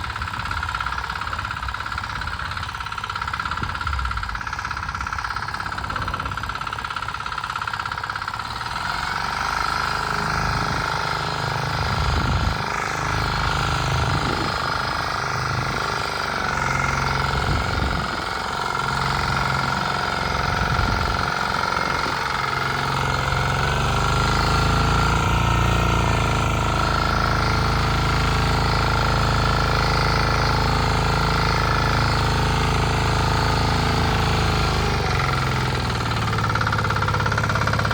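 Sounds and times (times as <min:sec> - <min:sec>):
tiller engine running: 0:00.0 - 0:37.9.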